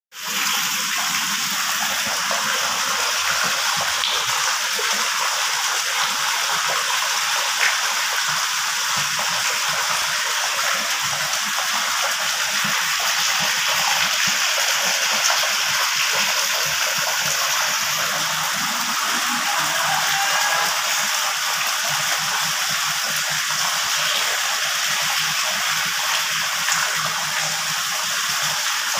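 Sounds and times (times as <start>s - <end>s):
water gushing into a pond: 0.1s - 28.9s.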